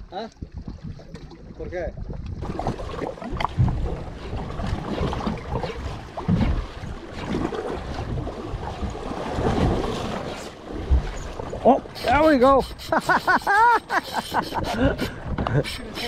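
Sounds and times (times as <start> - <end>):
sea water slapping boat: 0.0 - 16.0.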